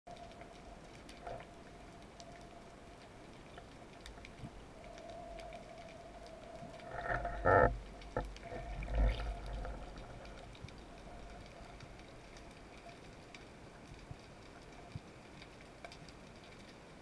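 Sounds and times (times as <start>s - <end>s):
muffled underwater rumble: 0.1s - 17.0s
sharp clicks and crackles: 0.1s - 17.0s.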